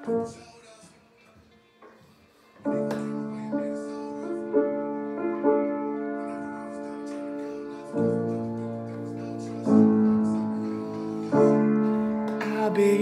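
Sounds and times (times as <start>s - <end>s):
piano chords ringing: 0.0s - 0.8s, 2.6s - 13.0s.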